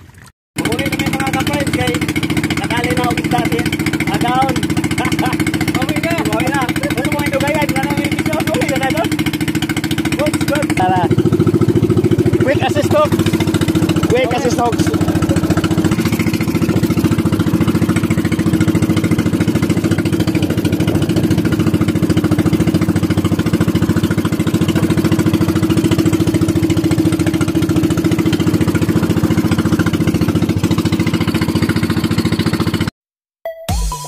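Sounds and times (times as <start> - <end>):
boat engine puttering: 0.0 - 32.9.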